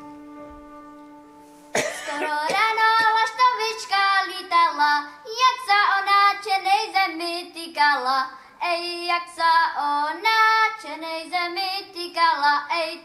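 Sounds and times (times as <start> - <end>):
girl singing folk song: 1.8 - 13.0.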